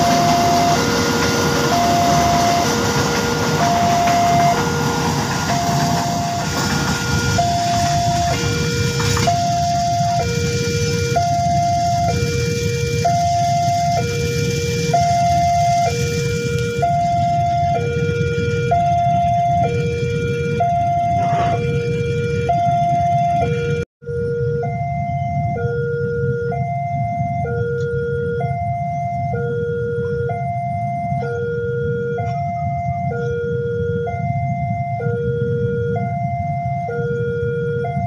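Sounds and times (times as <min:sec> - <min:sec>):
level crossing two-tone alarm: 0:00.0 - 0:38.0.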